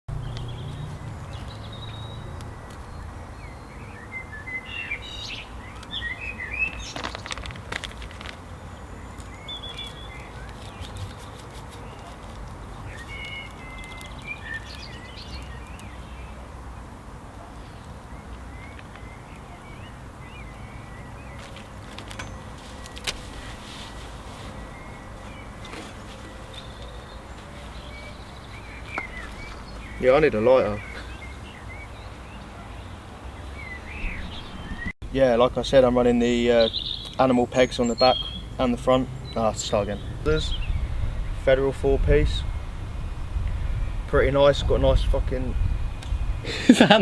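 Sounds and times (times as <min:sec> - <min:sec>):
birds chirping: 0:00.1 - 0:47.0.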